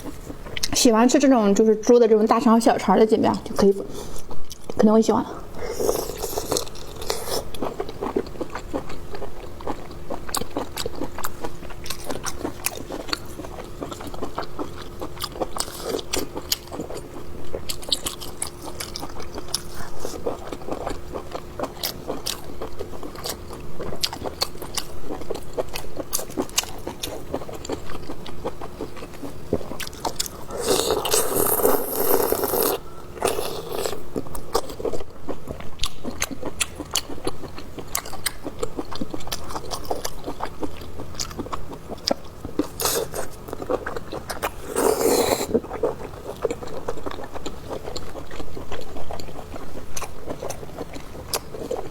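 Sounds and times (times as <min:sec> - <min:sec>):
biting and chewing: 0:05.6 - 0:51.9.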